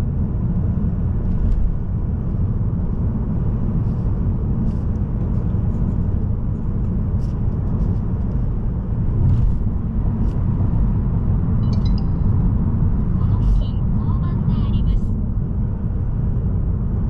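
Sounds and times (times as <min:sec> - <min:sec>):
diesel engine running: 0:00.0 - 0:17.0
tyre and road noise: 0:00.0 - 0:17.0.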